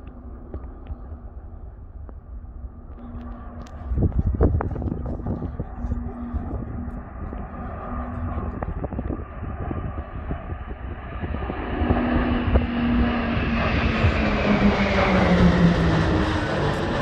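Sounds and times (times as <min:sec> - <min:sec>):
turboprop aircraft drone: 0:00.0 - 0:17.0.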